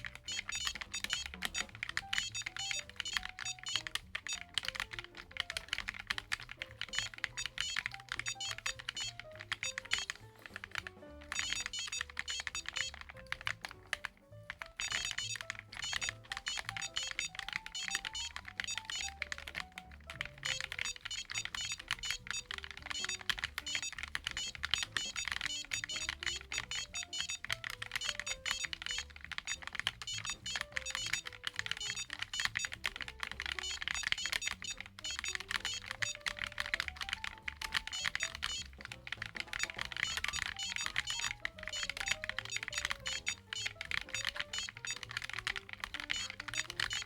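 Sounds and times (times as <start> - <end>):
background music: 0.0 - 47.0
fast typing on mechanical keyboard: 0.0 - 47.0.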